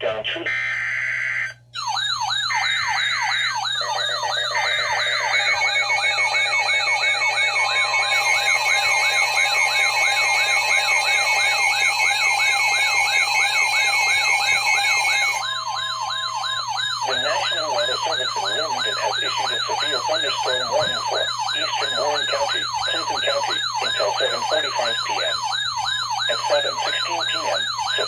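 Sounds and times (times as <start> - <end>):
electronic siren wail: 0.5 - 28.0.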